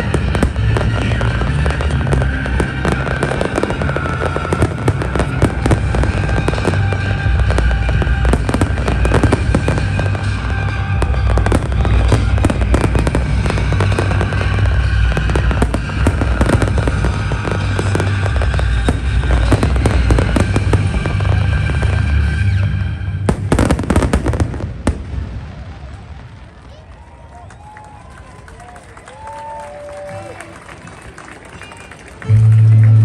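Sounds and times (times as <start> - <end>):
music playing: 0.0 - 25.0, 30.0 - 33.0
fireworks bangs and crackling: 0.0 - 30.3.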